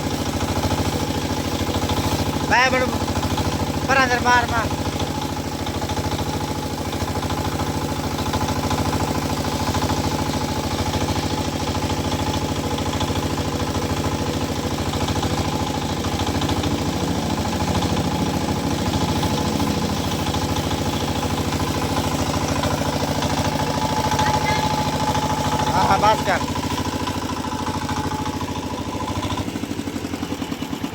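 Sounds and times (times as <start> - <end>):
tractor diesel engine idling: 0.0 - 30.9.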